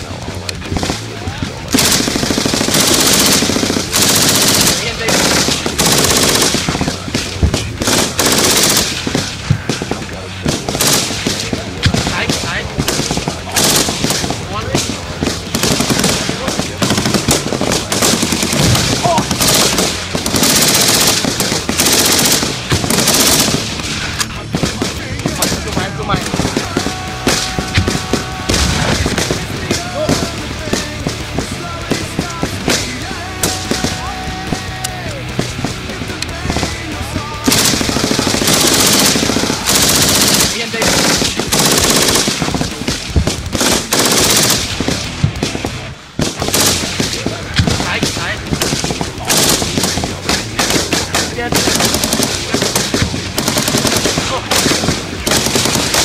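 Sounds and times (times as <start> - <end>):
rifles firing: 0.0 - 56.0
machine gun bursts: 1.7 - 35.7, 36.4 - 56.0.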